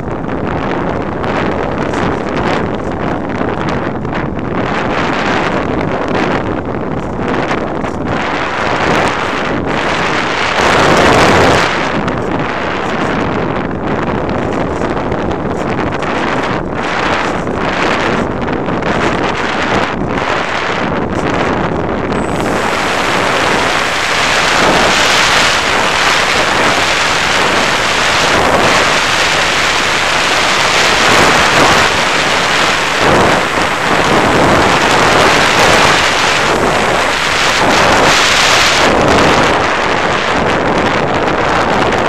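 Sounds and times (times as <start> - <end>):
loud air rush over microphone: 0.0 - 42.0.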